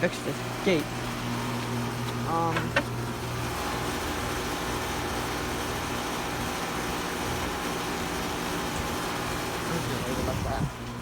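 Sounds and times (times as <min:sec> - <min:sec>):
fan rushing: 0:00.0 - 0:11.0
low compressor hum: 0:00.0 - 0:11.0.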